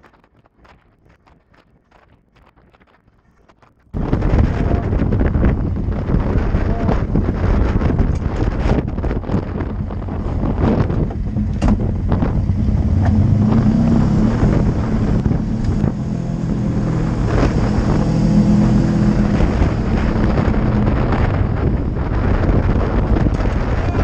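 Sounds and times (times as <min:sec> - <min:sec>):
wind buffeting microphone: 0:00.0 - 0:24.0
off-road vehicle engine under load: 0:03.9 - 0:24.0.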